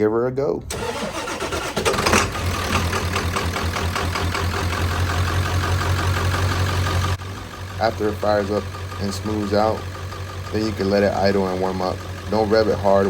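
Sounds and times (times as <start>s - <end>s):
diesel engine starting and idling: 0.6s - 13.0s.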